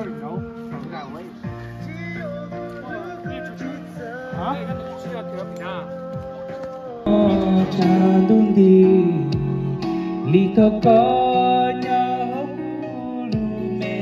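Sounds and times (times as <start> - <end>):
backing track with guitar: 0.0 - 14.0
man singing into microphone: 1.8 - 14.0.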